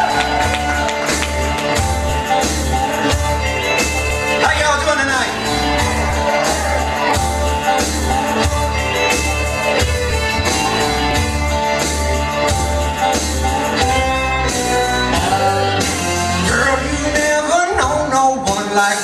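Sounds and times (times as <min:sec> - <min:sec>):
music with heavy bass: 0:00.0 - 0:19.0.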